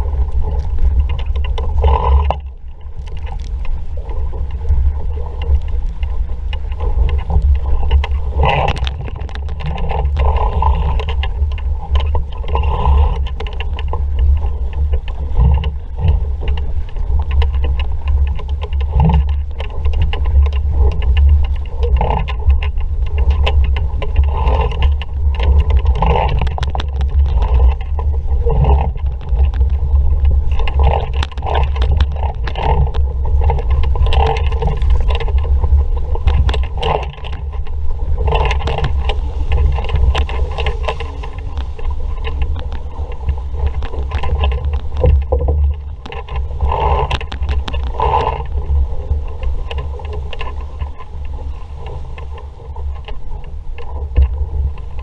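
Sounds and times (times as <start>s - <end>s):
hull knocks and water splashes: 0.0s - 55.0s
wind buffeting microphone: 0.0s - 55.0s.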